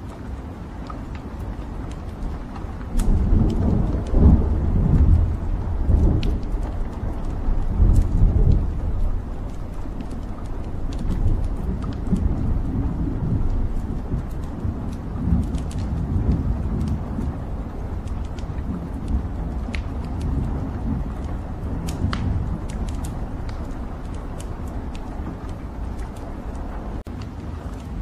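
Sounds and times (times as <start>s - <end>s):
rumble of flames: 0.0s - 28.0s
wood crackling and popping: 0.0s - 28.0s.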